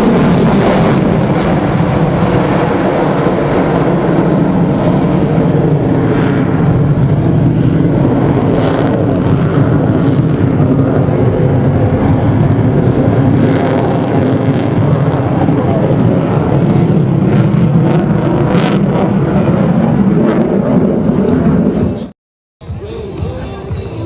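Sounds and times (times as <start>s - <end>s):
jet engine roaring: 0.0s - 24.0s.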